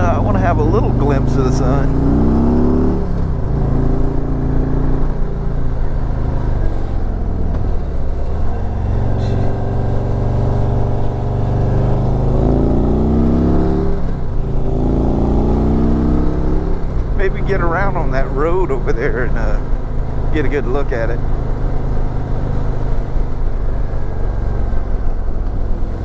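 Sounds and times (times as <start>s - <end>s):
motorcycle engine at road speed: 0.0s - 26.0s.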